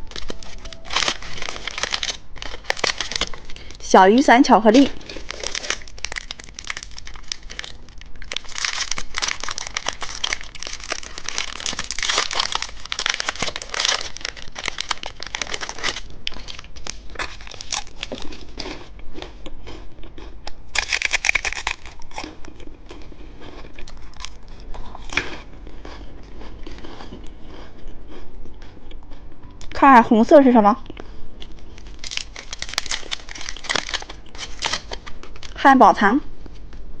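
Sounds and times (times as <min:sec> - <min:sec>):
candy packaging crinkling: 0:00.0 - 0:28.2, 0:31.5 - 0:35.6.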